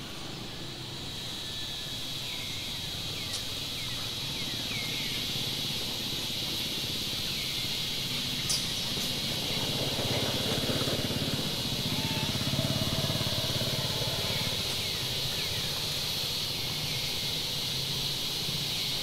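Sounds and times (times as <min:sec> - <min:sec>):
high insect drone: 0:00.0 - 0:19.0
low outdoor hum: 0:00.0 - 0:19.0.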